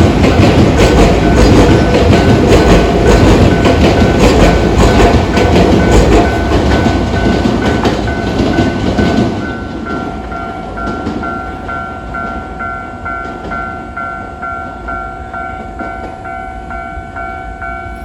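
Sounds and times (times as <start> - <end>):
level crossing warning bell: 0.0 - 18.0
train running noise: 0.0 - 18.0.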